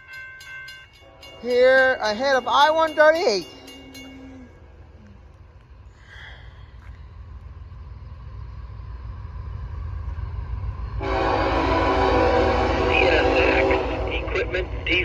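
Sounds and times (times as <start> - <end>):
freight train rumble: 0.0 - 15.0.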